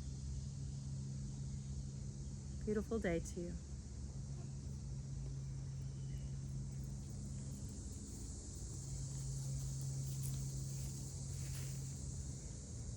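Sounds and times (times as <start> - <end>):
high-pitched insect chorus: 0.0 - 12.9
steady low hum: 0.0 - 12.9.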